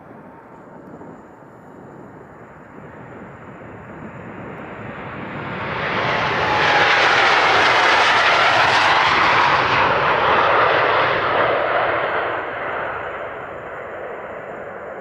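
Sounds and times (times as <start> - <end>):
jet engine roar on takeoff: 0.0 - 15.0.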